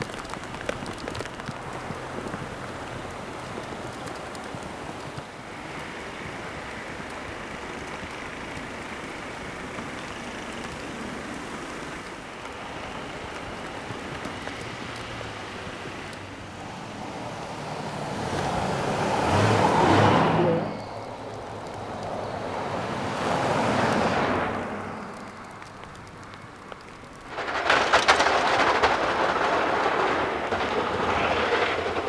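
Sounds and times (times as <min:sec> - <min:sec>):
blizzard wind: 0:00.0 - 0:32.0
vehicle engine approaching: 0:00.0 - 0:32.0.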